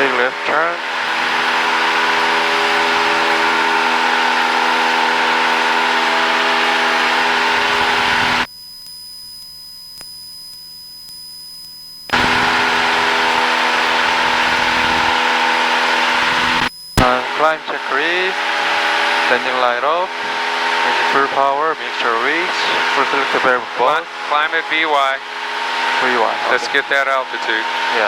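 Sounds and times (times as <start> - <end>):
airplane engine drone in cockpit: 0.0 - 8.5, 12.1 - 28.0.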